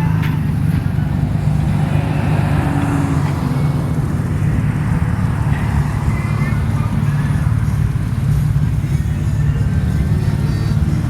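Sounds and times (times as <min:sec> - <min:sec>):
car engine running steadily: 0:00.0 - 0:11.0.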